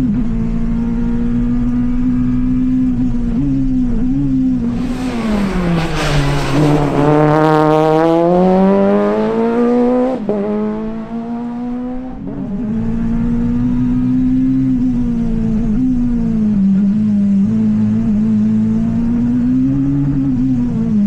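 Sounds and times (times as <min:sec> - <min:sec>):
rally car engine at high revs: 0:00.0 - 0:21.0.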